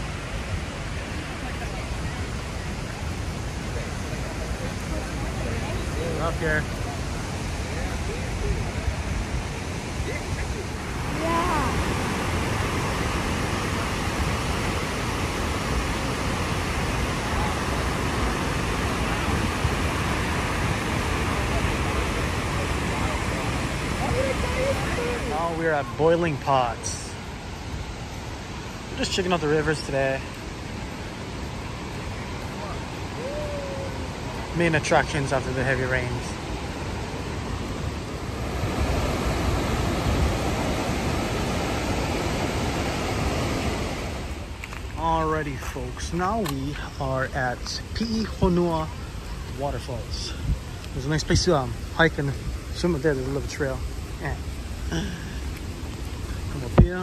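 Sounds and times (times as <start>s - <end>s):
river roaring through rapids: 0.0s - 57.0s
waterfall rushing: 0.0s - 57.0s.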